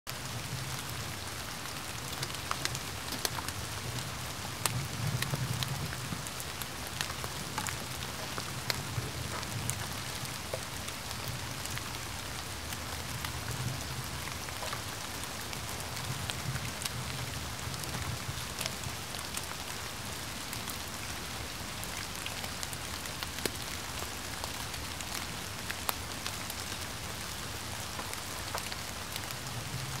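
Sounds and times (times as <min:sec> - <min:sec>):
gentle rain hissing: 0:00.1 - 0:30.0.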